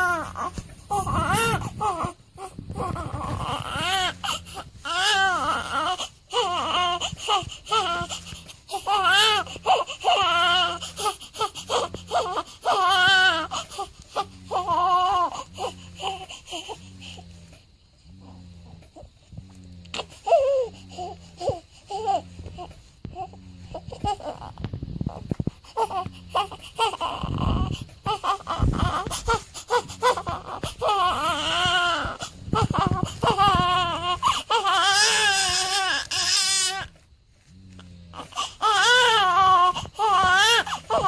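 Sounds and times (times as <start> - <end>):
newborn baby crying: 0.0 - 17.2, 19.9 - 36.9, 38.1 - 41.0.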